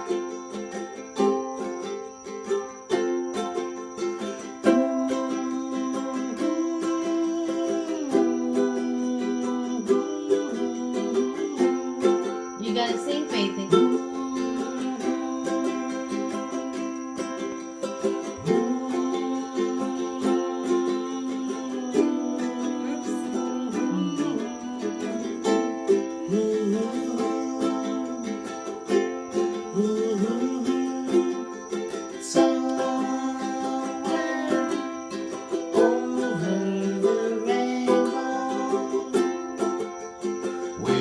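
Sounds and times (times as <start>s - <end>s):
ukulele strumming: 0.0s - 41.0s.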